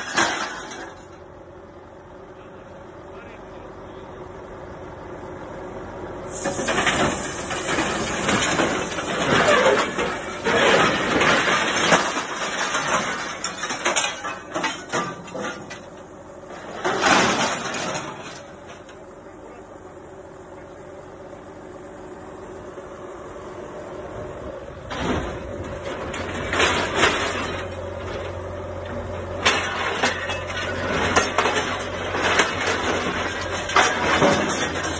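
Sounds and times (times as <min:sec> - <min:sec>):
low background hum: 0:00.0 - 0:34.9.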